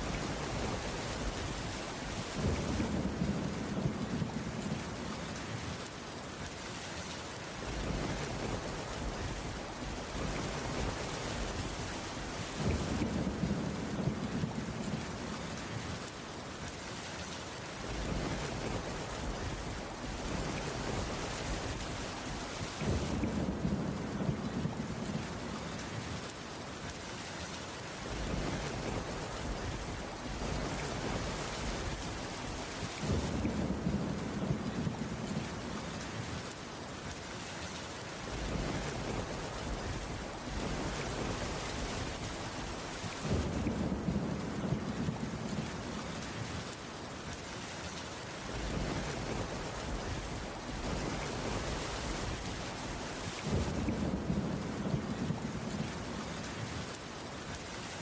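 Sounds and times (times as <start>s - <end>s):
thunder rumble: 0.0s - 5.8s, 7.6s - 16.0s, 17.8s - 26.3s, 28.0s - 36.5s, 38.2s - 46.5s, 48.4s - 56.6s
rain on a wooden roof: 0.0s - 58.0s.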